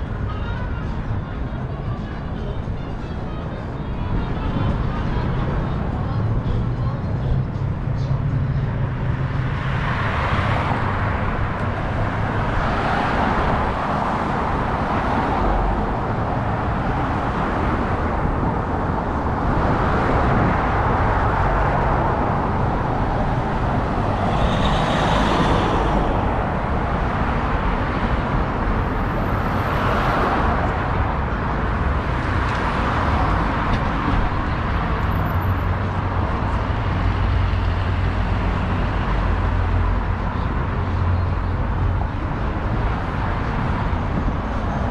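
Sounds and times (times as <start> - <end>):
cars passing: 0.0 - 44.9.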